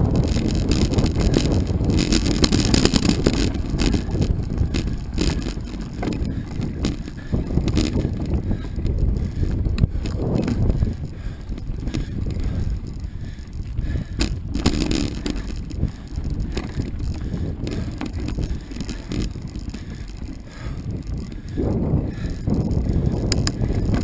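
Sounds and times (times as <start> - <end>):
bike clicks and rattles: 0.0 - 24.0
bike tyres rumbling on dirt: 0.0 - 24.0.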